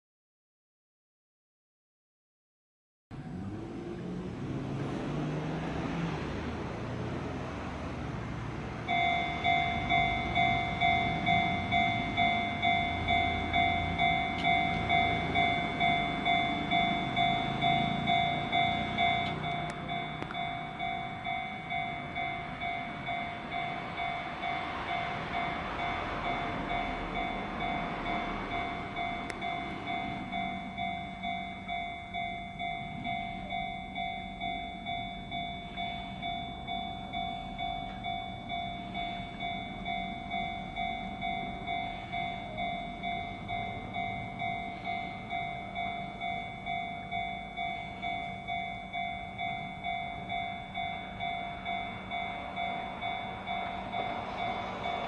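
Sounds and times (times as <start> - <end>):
train passing: 3.2 - 55.0
level crossing bell ringing: 8.9 - 55.0.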